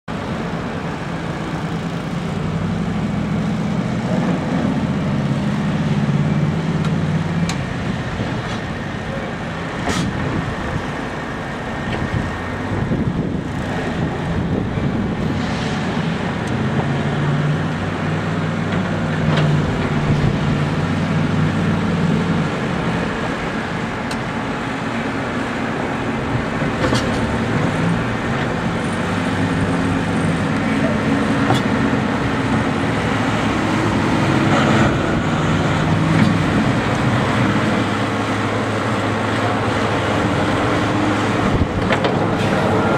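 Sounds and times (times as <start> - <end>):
snow-clearing machine engine hum: 0.1 - 42.9.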